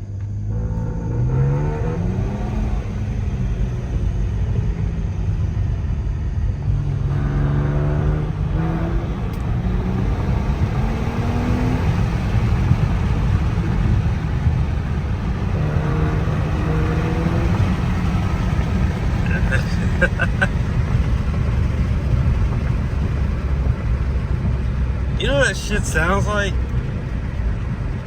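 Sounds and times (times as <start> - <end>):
car exhaust rumble: 0.0 - 28.0.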